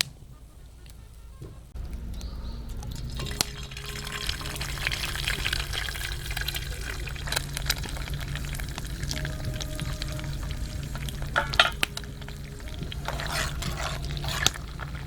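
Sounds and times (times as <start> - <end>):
stirring clacks: 1.7 - 15.0
rice sizzling in a pan: 2.1 - 15.0.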